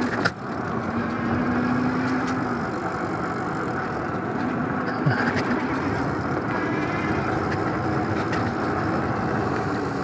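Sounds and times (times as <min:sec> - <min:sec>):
bike rolling on pavement: 0:00.0 - 0:10.0
traffic passing: 0:00.0 - 0:10.0.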